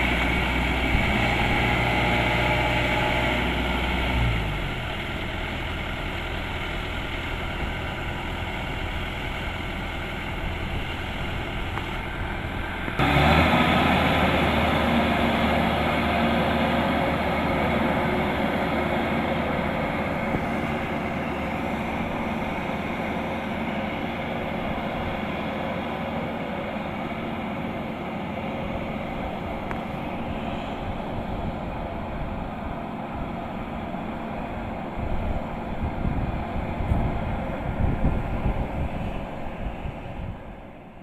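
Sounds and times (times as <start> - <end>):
combine harvester droning: 0.0 - 41.0
low buffeting: 0.0 - 41.0.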